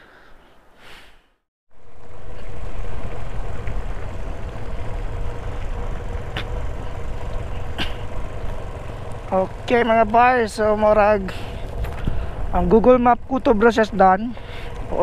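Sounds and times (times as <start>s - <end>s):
motorcycle engine running: 1.7s - 15.0s.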